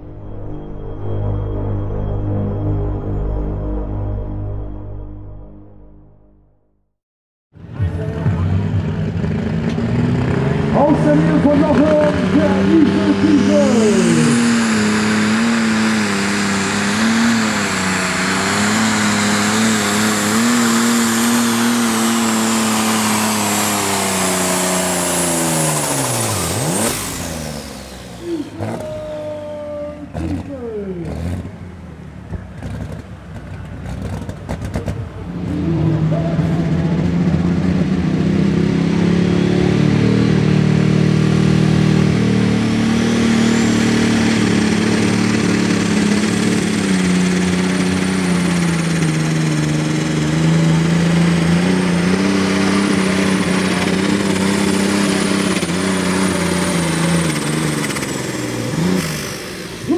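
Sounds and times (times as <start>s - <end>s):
high turbo whine: 0.0s - 6.8s, 7.5s - 59.9s
tractor engine at full power: 7.5s - 59.9s
second tractor engine running: 7.6s - 59.9s.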